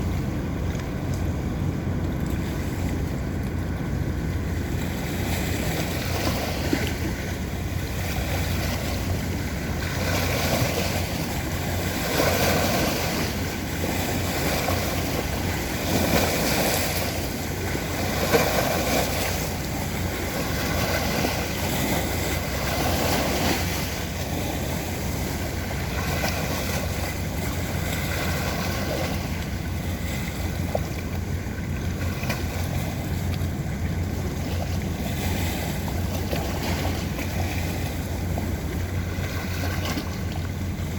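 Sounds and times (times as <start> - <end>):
boat engine rumble: 0.0 - 40.9
wake washing against riverbank: 0.0 - 40.9
wind on microphone: 0.0 - 40.9.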